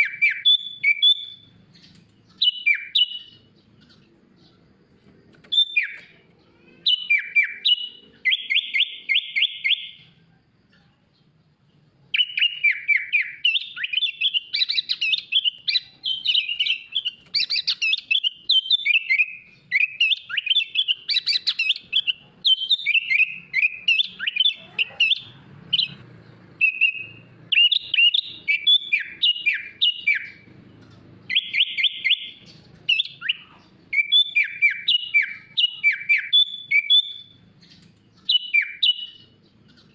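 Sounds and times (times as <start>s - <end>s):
bulbul singing chirps and whistles: 0.0s - 4.7s, 5.3s - 10.2s, 11.2s - 39.9s
fast rattling bird trill: 0.0s - 10.0s, 12.1s - 39.9s.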